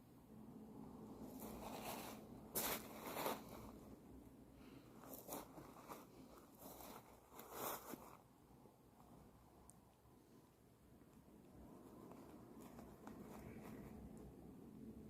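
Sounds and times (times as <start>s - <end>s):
faint rustling strokes: 1.0s - 9.4s, 10.1s - 15.0s.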